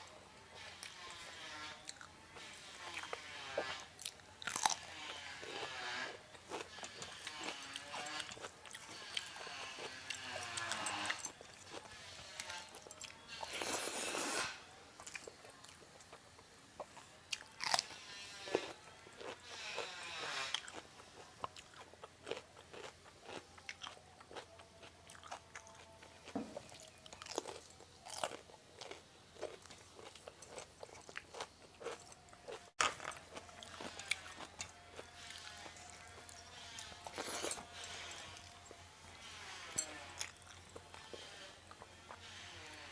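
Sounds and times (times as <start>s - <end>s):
crunchy chewing: 0.6s - 42.9s.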